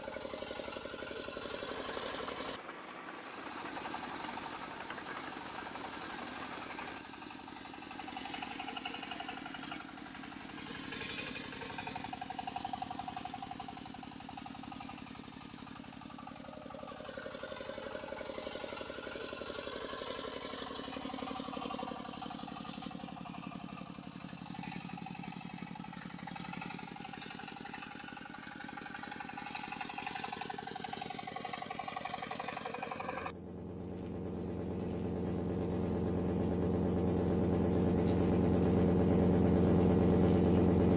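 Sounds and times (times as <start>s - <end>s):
model vehicle motors whirring: 0.0s - 33.3s
low steady engine hum: 0.0s - 40.9s.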